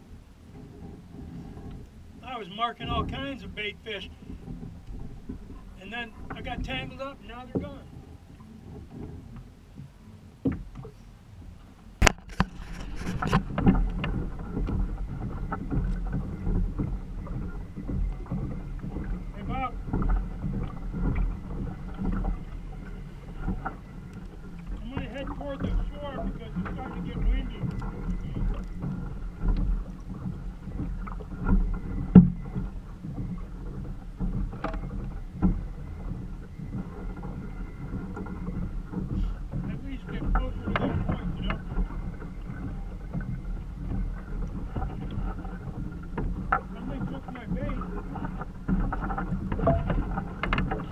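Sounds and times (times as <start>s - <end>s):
knocks and clicks from boat: 0.0s - 50.9s
water sloshing against plastic hull: 0.0s - 50.9s.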